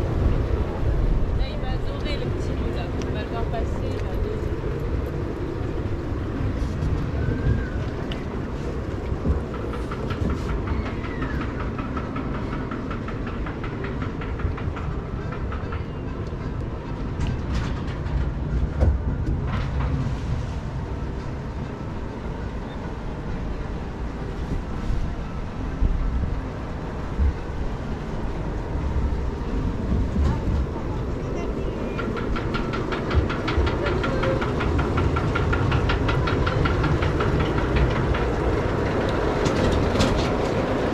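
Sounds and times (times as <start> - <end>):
flowing water and moving boat: 0.0 - 40.9.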